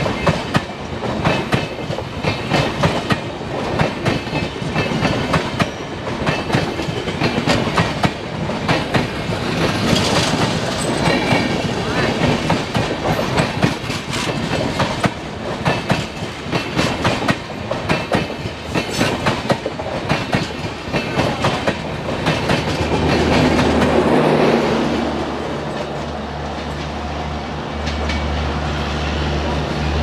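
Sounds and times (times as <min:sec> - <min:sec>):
train wheels clattering over rail joints: 0:00.0 - 0:24.5
train rushing past: 0:00.0 - 0:30.0.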